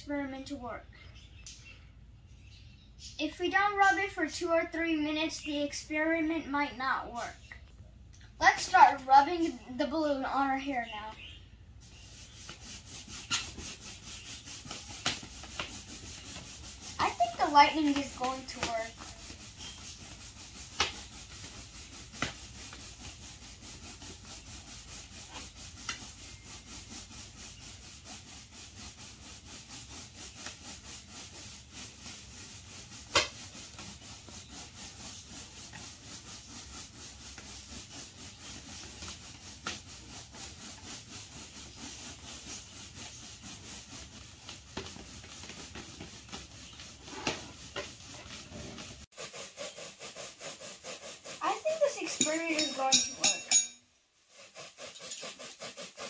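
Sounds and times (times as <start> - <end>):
balloon rubbing on hair: 8.4 - 53.6, 54.2 - 56.0.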